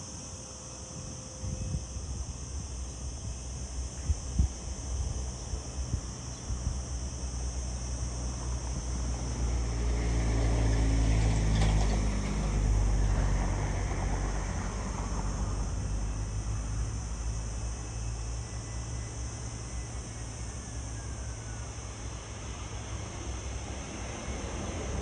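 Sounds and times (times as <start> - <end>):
jet engine whine: 0.0 - 25.0.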